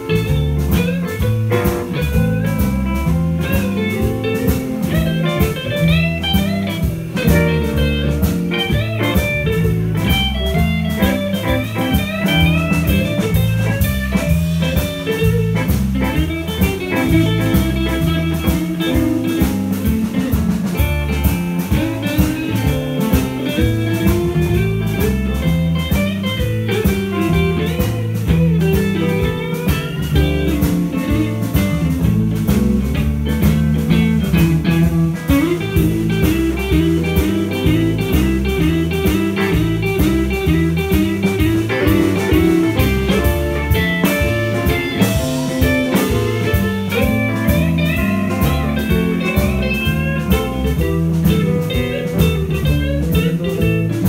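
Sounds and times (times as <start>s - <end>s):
bass guitar: 0.0s - 54.0s
drum kit: 0.0s - 54.0s
lead electric guitar: 0.0s - 54.0s
rhythm guitar: 0.0s - 54.0s.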